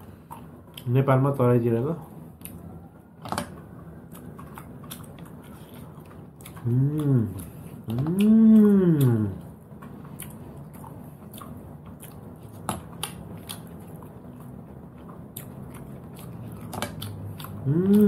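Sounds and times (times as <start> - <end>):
person chewing: 0.0 - 1.1, 2.0 - 18.0.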